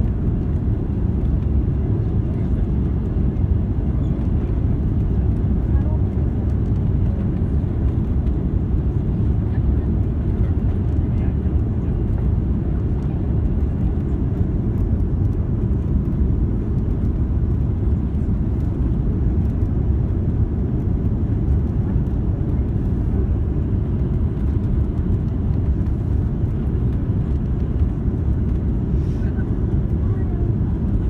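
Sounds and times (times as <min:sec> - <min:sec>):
airplane low rumble: 0:00.0 - 0:31.0.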